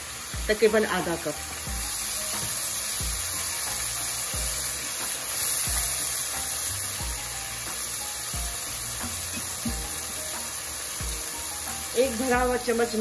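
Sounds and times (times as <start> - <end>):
background music with slow beat: 0.0 - 13.0
oil sizzling in a pan: 0.0 - 13.0.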